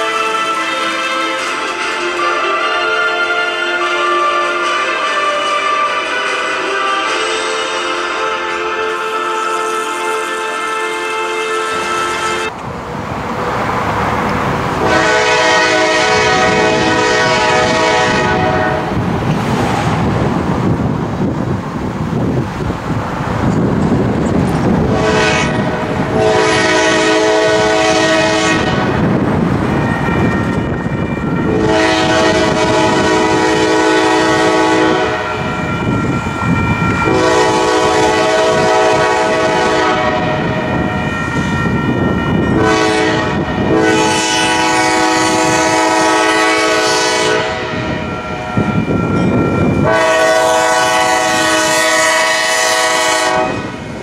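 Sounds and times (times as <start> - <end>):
locomotive air horn blasts: 0.0 - 12.5, 14.8 - 19.0, 24.8 - 29.2, 29.8 - 53.8
train rumbling: 0.0 - 54.0.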